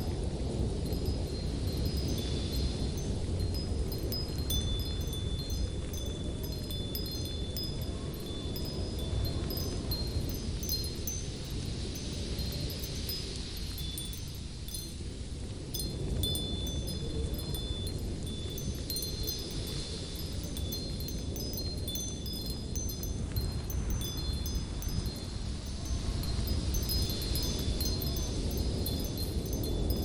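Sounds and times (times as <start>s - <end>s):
low wind rumble: 0.0s - 30.0s.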